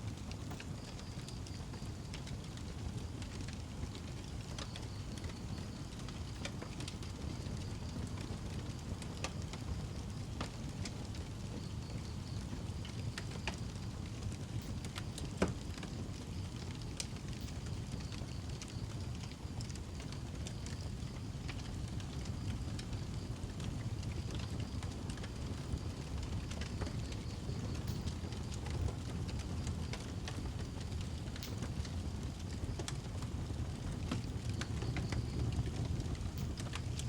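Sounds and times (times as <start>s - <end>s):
fire flames rumbling: 0.0s - 37.0s
wood fire crackling and popping: 0.0s - 37.0s.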